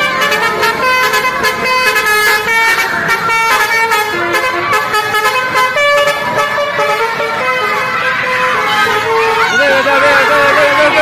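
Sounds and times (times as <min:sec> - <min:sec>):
bus horn playing tune: 0:00.0 - 0:11.0.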